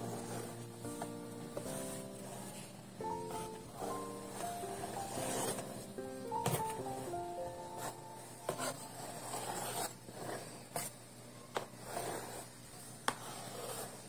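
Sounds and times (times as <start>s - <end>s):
spatula scraping cream: 0.0s - 2.7s, 3.3s - 14.0s.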